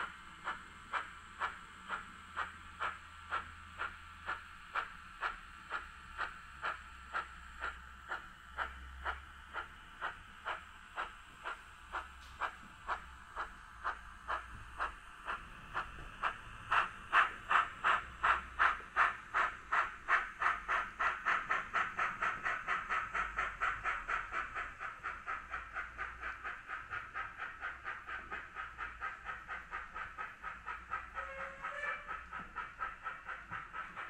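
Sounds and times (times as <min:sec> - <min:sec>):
model steam locomotive chuffing: 0:00.0 - 0:34.0.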